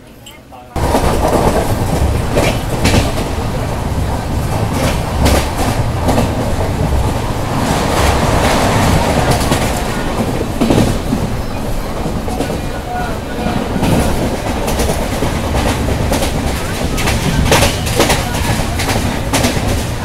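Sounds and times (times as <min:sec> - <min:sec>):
train coach rumbling: 0:00.0 - 0:20.0.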